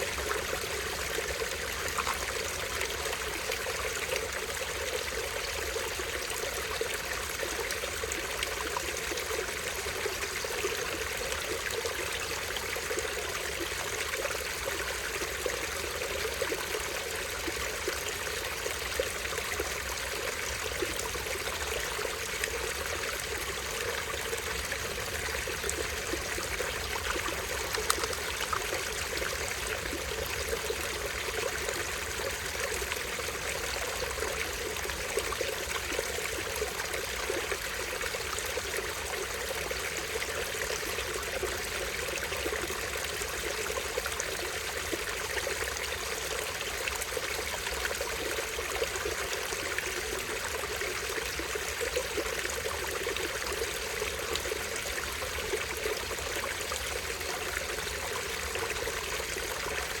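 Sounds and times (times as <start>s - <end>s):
stream trickling over rocks: 0.0s - 60.0s.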